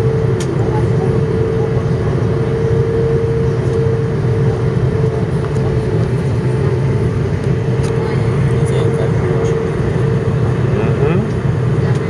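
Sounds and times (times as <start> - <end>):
constant hum: 0.0 - 12.0
jet engines rumbling: 0.0 - 12.0.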